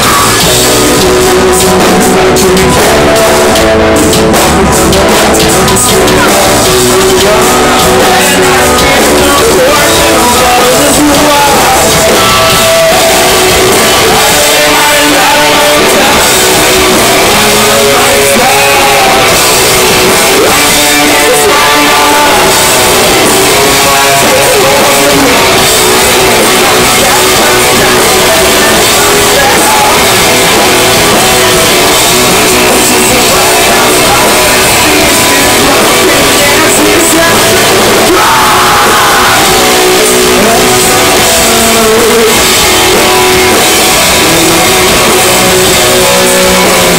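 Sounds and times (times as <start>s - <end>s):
bass guitar: 0.0s - 46.9s
drums: 0.0s - 46.9s
electric guitars: 0.0s - 46.9s
person singing: 0.0s - 46.9s.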